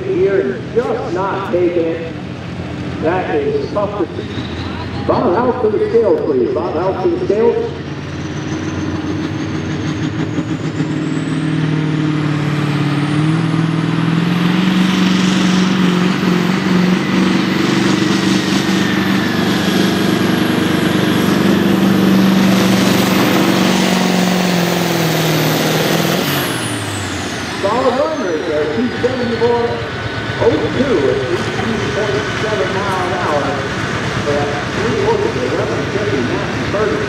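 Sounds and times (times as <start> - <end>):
tractor engine running hard: 0.0 - 37.0.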